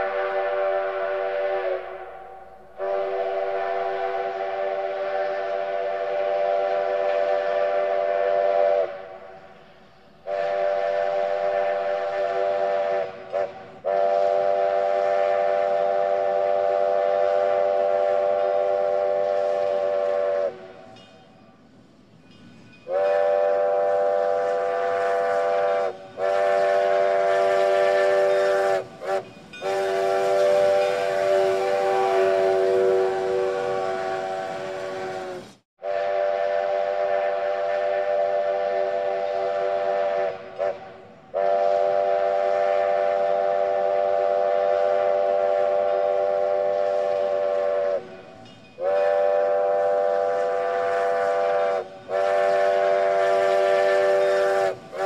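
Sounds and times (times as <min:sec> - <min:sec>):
steam whistle blasts: 0:00.0 - 0:21.2, 0:22.8 - 0:55.0.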